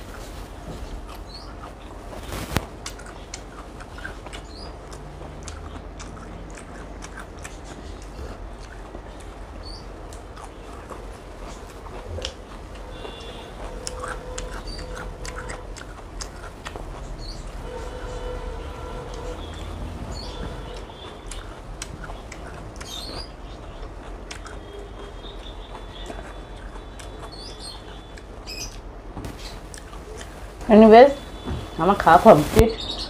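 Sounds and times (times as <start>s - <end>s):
person chewing food: 0.0s - 30.6s.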